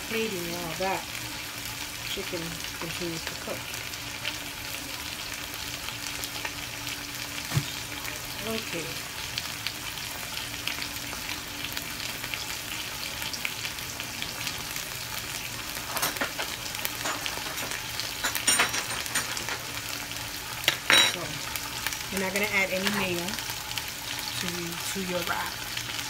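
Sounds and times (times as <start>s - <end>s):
meat sizzling in a frying pan: 0.0s - 26.0s.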